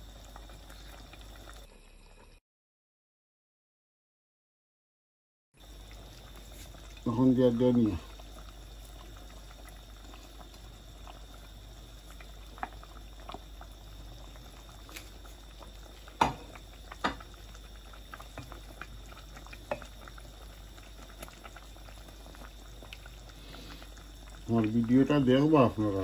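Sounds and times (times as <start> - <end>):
curry bubbling in pot: 0.0 - 2.4, 5.6 - 26.0.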